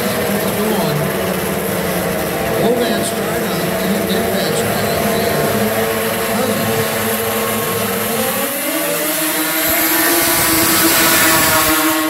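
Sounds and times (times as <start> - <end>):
snowmobile engines revving high: 0.0 - 12.0.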